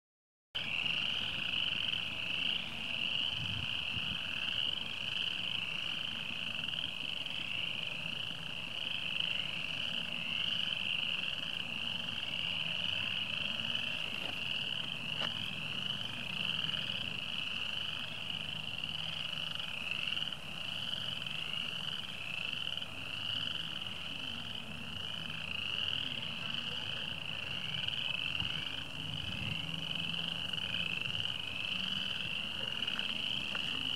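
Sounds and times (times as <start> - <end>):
chorus of spring peepers: 0.6 - 33.9.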